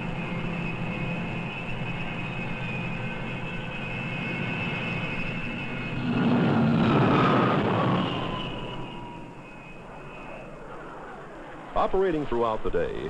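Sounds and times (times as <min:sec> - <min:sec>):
jet engines whining: 0:00.0 - 0:13.0
jet passing close: 0:00.0 - 0:13.0.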